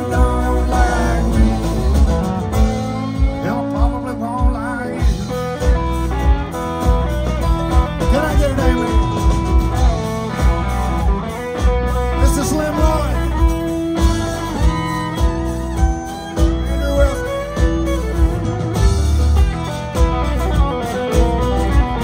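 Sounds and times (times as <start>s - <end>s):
live country band playing: 0.0s - 22.0s.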